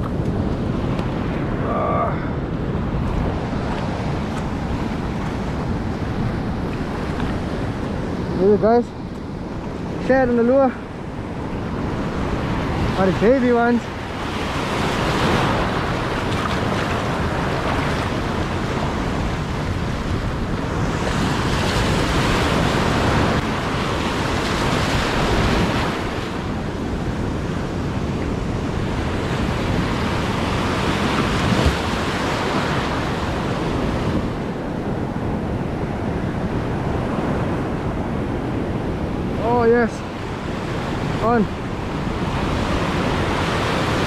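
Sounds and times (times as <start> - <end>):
ocean surf breaking on sand: 0.0 - 44.0
wind rumble on microphone: 0.0 - 44.0.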